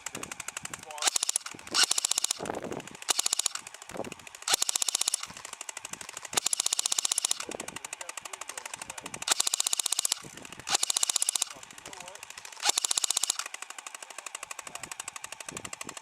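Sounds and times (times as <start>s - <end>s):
airsoft guns firing full-auto: 0.0s - 16.0s.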